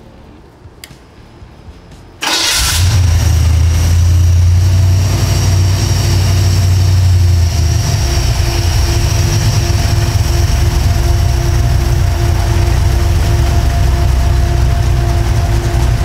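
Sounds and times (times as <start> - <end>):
engine starting and idling: 2.2 - 16.0.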